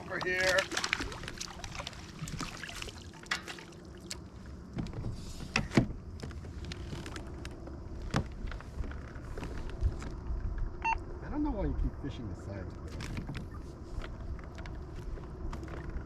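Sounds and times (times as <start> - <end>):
faint water noise: 0.0 - 16.0
low steady rumble: 0.0 - 16.0.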